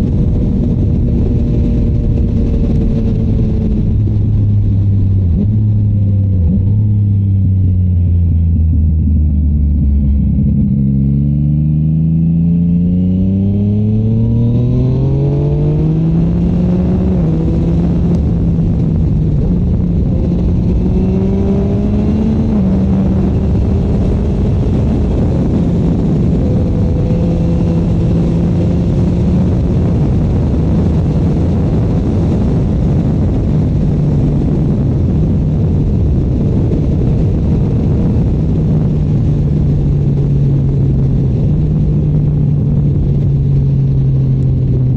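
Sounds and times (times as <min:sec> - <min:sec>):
motorcycle engine accelerating: 0:00.0 - 0:44.9
wind rush: 0:00.0 - 0:44.9.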